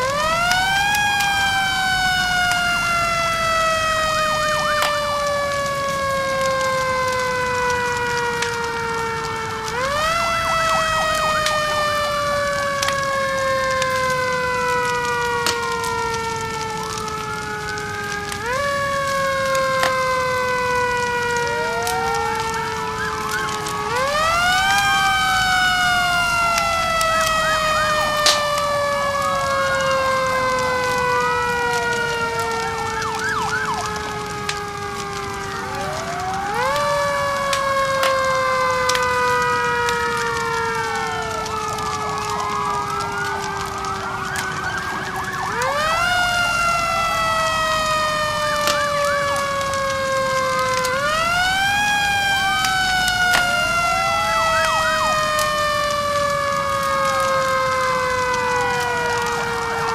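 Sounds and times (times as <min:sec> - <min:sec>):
fire crackling: 0:00.0 - 0:59.9
fire truck sirens wailing: 0:00.0 - 0:59.9.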